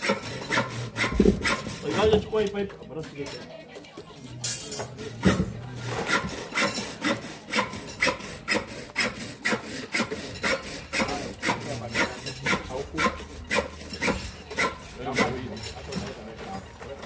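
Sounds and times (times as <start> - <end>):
rhythmic hand scraping: 0.0 - 2.5, 4.5 - 17.0.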